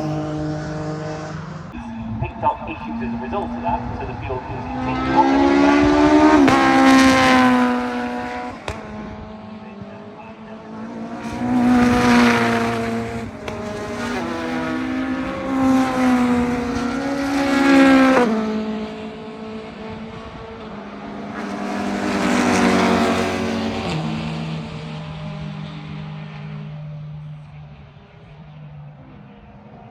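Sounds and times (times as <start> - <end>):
engines revving and changing gear: 0.0 - 29.9
racing cars passing: 0.0 - 29.9.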